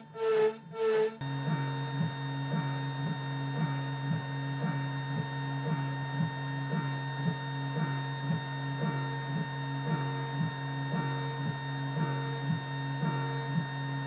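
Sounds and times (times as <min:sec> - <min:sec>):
milling machine spindle whine: 0:00.0 - 0:14.0.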